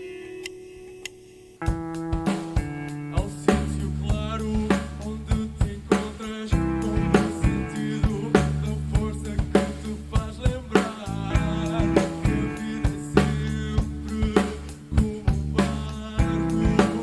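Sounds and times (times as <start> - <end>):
drum kit beat: 1.6 - 17.0
rock band playing: 1.6 - 17.0.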